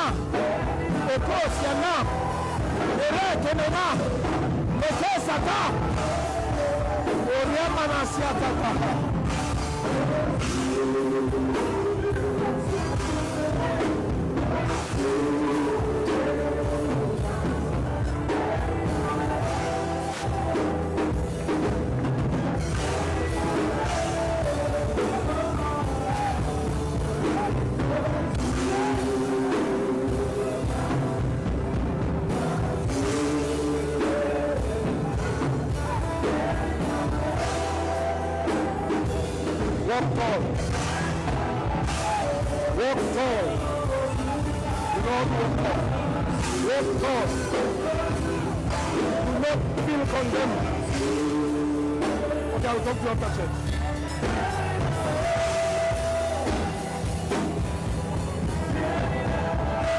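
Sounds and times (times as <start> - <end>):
live worship music with singing: 0.0 - 59.9.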